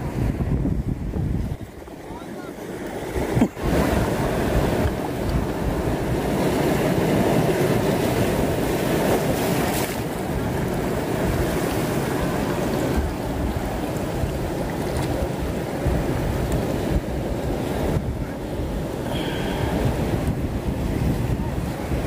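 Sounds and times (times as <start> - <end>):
wind buffeting microphone: 0.0 - 2.2, 2.8 - 22.0
surf washing on rocky shore: 0.0 - 22.0.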